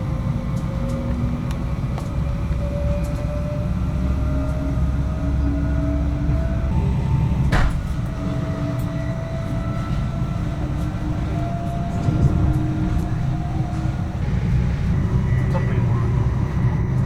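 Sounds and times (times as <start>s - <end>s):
electric train running: 0.1s - 17.0s.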